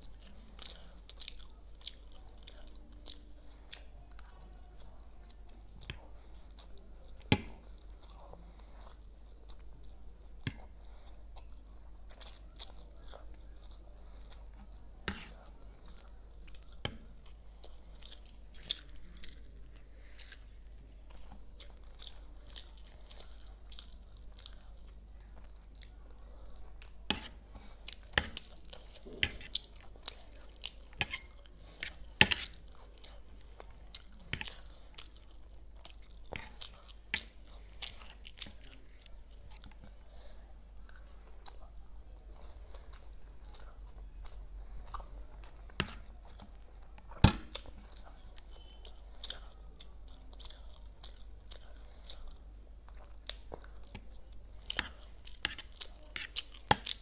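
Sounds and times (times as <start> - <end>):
person chewing and biting: 0.0 - 40.0, 40.7 - 57.0.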